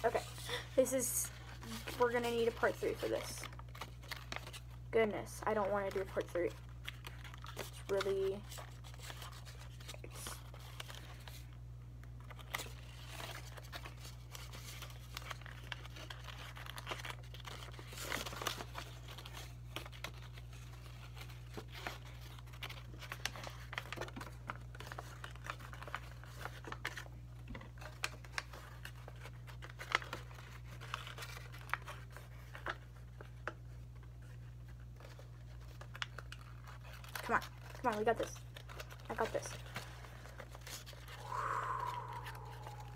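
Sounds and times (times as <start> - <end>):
paper folding and crinkling: 0.0 - 41.2.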